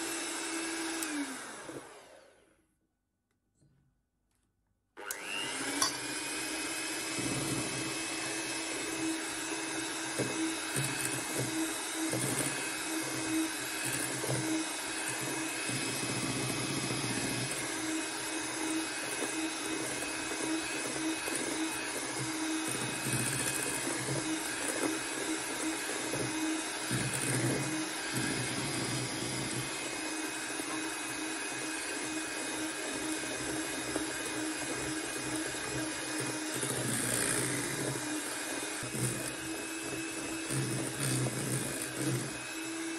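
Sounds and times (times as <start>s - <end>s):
electric hand mixer whirring: 0.0s - 2.5s, 5.0s - 42.9s.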